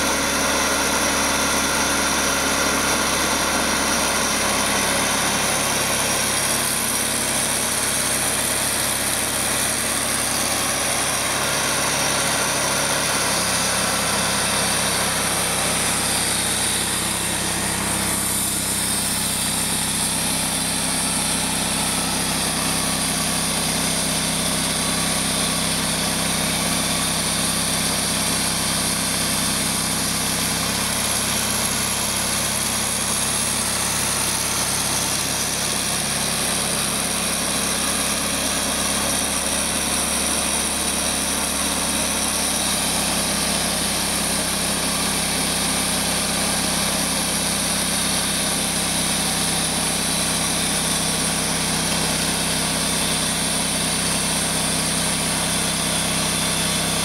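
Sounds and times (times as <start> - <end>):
band sawmill engine droning: 0.0 - 57.0.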